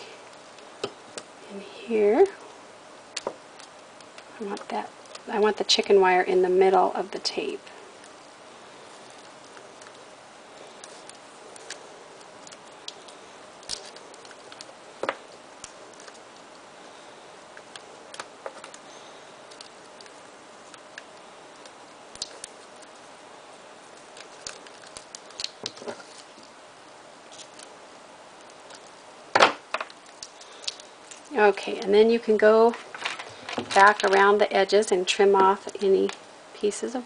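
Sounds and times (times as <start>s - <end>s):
steady low hiss: 0.0s - 37.0s.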